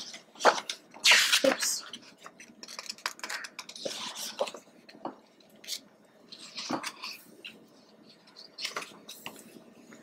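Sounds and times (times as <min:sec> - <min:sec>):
book pages turning: 0:00.0 - 0:10.0.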